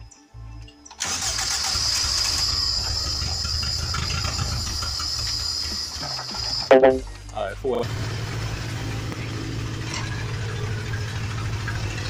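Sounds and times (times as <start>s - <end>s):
car engine starting and running: 0.9s - 12.0s.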